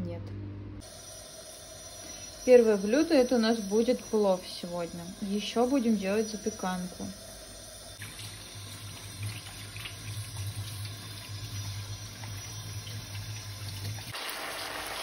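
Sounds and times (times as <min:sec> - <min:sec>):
chicken sizzling in oil: 0:01.2 - 0:15.0.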